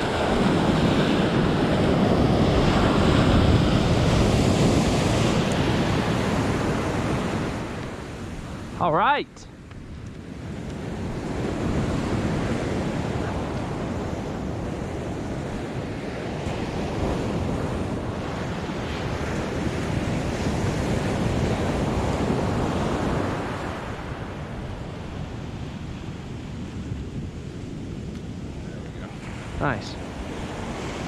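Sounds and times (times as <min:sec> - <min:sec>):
ocean surf washing onto beach: 0:00.0 - 0:31.0
wind buffeting microphone: 0:00.0 - 0:31.0.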